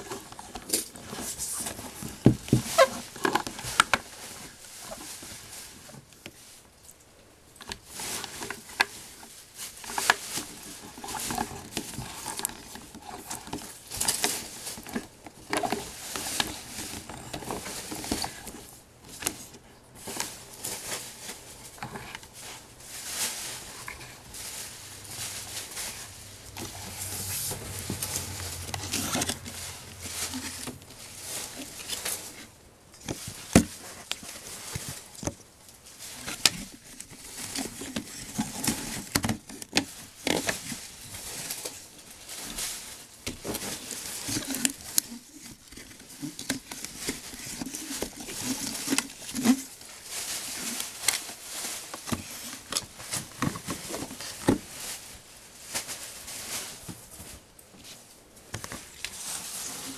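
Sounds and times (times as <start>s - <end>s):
hands handling a doll: 0.0s - 59.9s
soft rustling: 0.0s - 59.9s.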